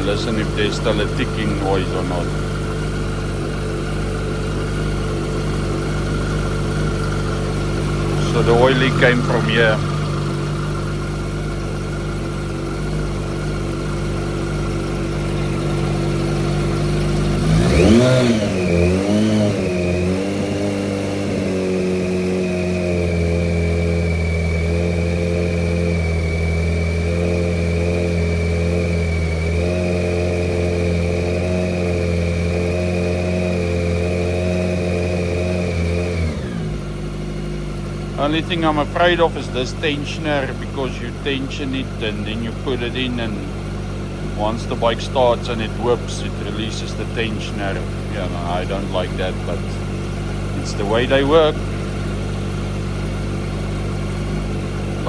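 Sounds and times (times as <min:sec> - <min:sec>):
engine revving: 0:00.0 - 0:55.0
motorcycle engine idling: 0:00.0 - 0:55.0.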